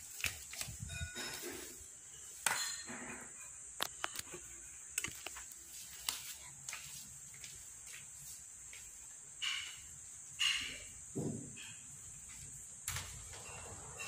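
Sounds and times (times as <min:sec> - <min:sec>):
broom sweeping tiled floor: 0:00.0 - 0:14.0.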